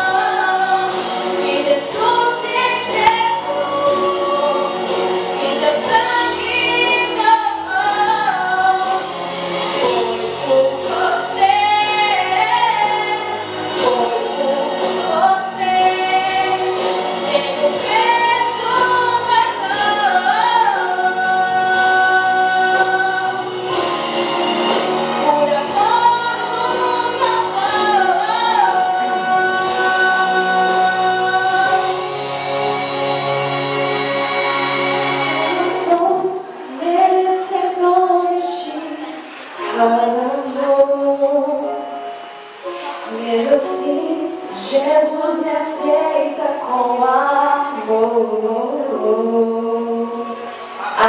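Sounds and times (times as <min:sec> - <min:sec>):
instrumental accompaniment: 0:00.0 - 0:51.0
voices singing a hymn: 0:00.0 - 0:51.0.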